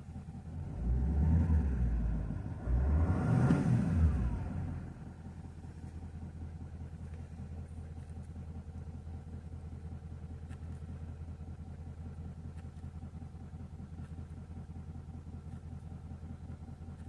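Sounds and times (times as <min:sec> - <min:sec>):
diesel engine idling: 0:00.0 - 0:03.1, 0:03.7 - 0:17.0.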